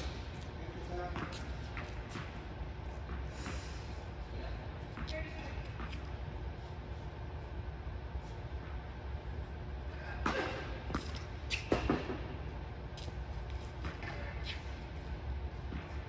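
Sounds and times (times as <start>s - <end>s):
low hum echoing in hall: 0.0s - 16.0s.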